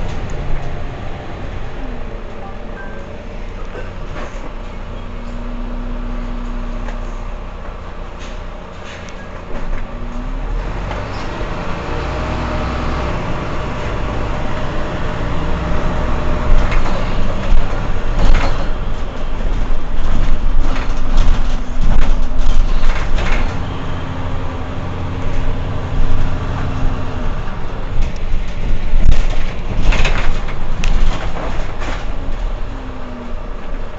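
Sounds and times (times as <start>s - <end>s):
bus engine idling: 0.0s - 33.9s.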